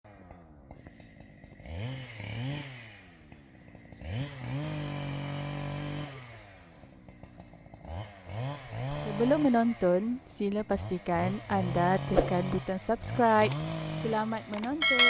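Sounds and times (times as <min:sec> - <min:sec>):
chainsaw idling and revving: 0:00.1 - 0:15.0.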